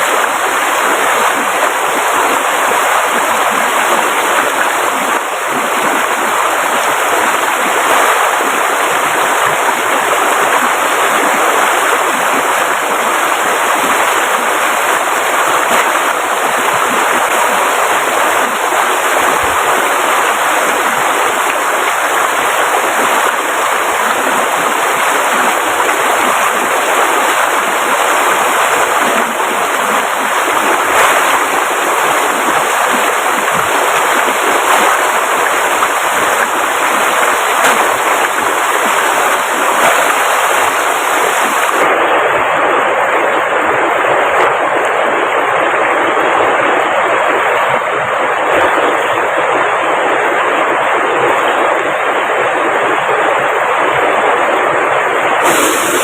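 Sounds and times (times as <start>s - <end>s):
rushing flowing water: 0.0s - 56.0s.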